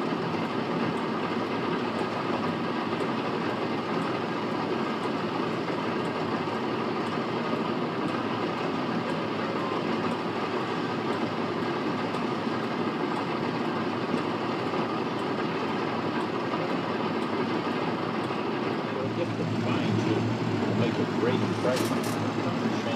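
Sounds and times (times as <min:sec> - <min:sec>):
faint machinery ticking: 0:00.0 - 0:22.9
tractor and baler running: 0:00.0 - 0:22.9.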